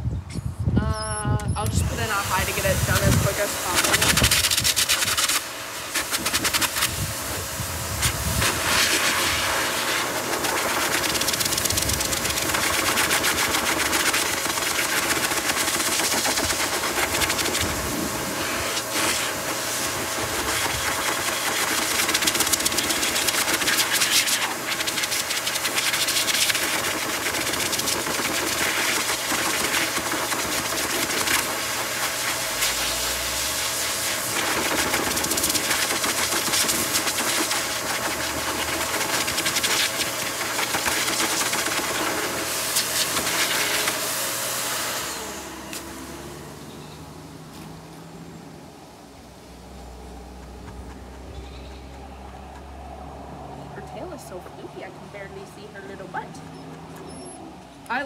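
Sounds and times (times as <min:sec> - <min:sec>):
blow dryer running: 0:00.8 - 0:57.0.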